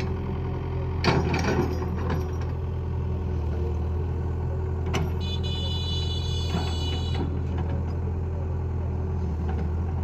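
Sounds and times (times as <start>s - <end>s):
tractor diesel engine idling: 0.0s - 10.0s.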